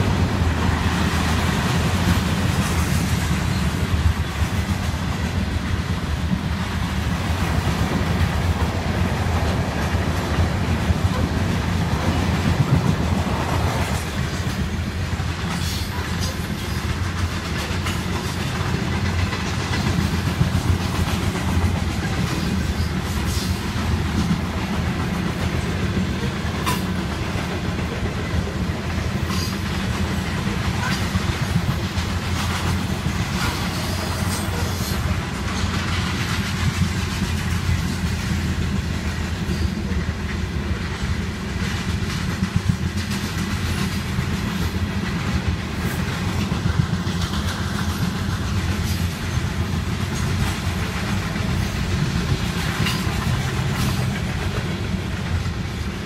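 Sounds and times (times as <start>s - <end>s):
railway wagons rumbling past: 0.0s - 56.0s
wheels clacking over rail joints: 0.0s - 56.0s.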